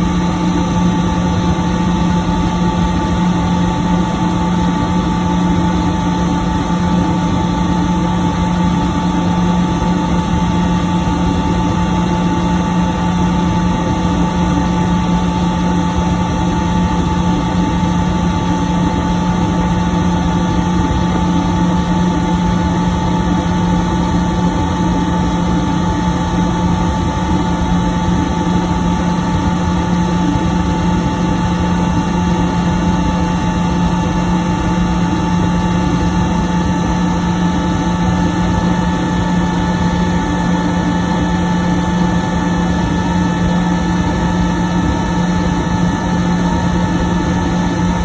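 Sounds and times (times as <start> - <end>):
air compressor running: 0.0 - 48.0.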